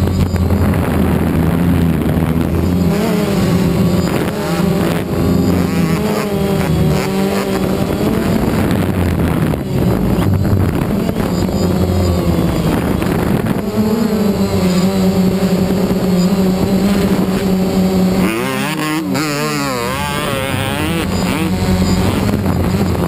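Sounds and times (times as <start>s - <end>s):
drone propellers humming: 0.0s - 23.0s.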